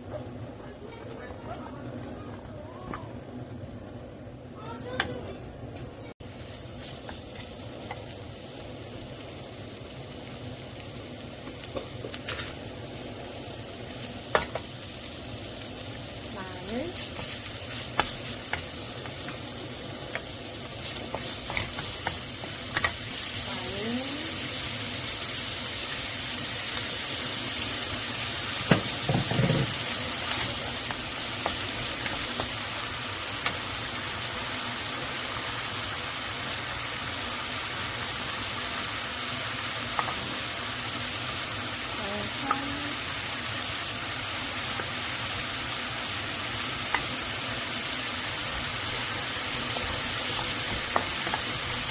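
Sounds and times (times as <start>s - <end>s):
food sizzling in a frying pan: 6.1s - 51.9s.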